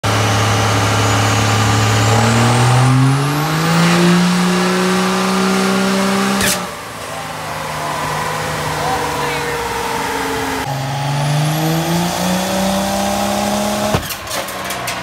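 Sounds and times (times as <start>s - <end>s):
high turbo whine: 0.0s - 14.8s
diesel engine running hard: 0.0s - 15.0s.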